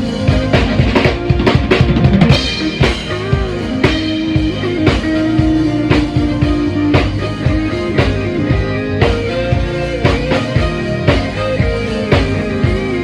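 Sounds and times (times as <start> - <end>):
drum kit playing: 0.0 - 13.0
electric guitar and bass notes: 0.0 - 13.0.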